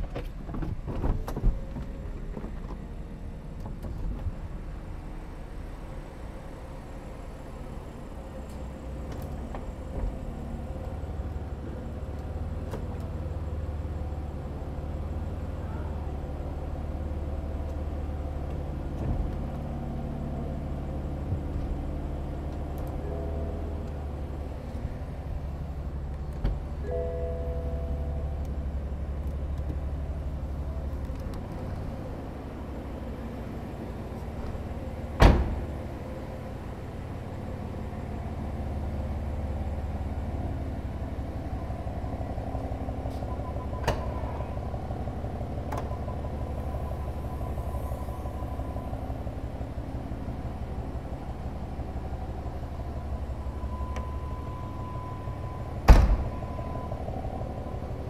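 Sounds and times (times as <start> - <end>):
car engine idling: 2.8 - 58.0.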